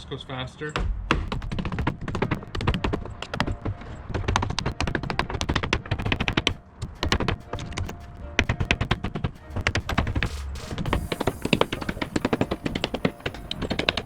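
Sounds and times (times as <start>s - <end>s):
hammer knocking on wood: 0.8s - 14.0s.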